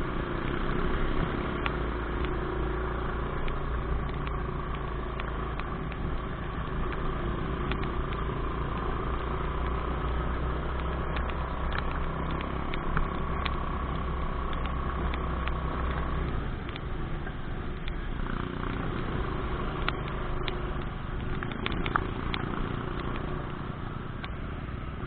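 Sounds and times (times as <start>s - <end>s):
motorcycle engine running: 0.0s - 25.0s
road and wind noise: 0.0s - 25.0s
sharp ticks: 3.3s - 16.9s, 17.8s - 24.4s.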